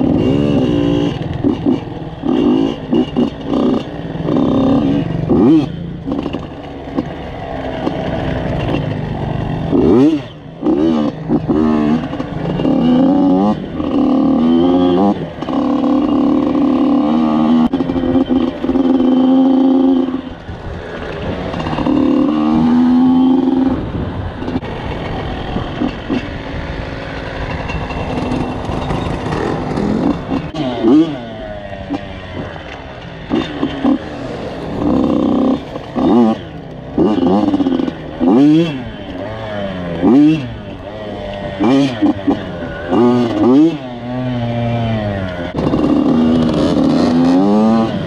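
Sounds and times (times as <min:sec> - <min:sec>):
two-stroke engine revving: 0:00.0 - 0:48.0.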